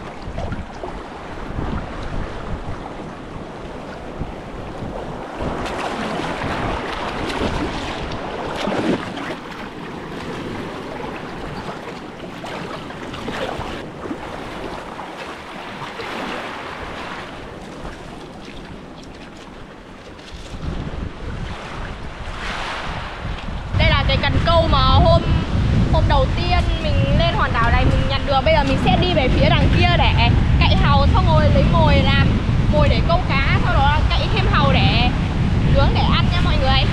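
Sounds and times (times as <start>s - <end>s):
waves washing on shore: 0.0s - 36.9s
wind buffeting microphone: 0.0s - 36.9s.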